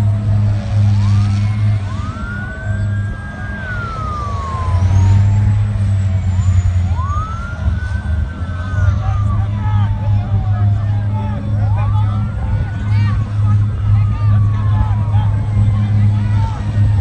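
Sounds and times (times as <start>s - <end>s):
fire truck sirens wailing: 0.0s - 17.0s
low engine drone: 0.0s - 17.0s.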